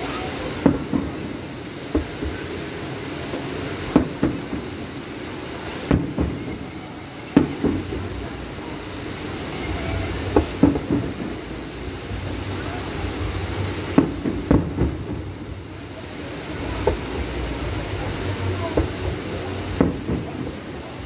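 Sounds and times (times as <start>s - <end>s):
background hiss: 0.0s - 21.0s
firework shells bursting: 0.4s - 12.4s, 13.2s - 15.9s, 16.6s - 21.0s.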